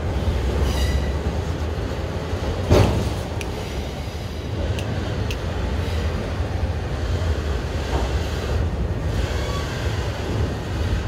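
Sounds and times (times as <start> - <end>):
freight train wheels rumbling on rail: 0.0 - 11.0.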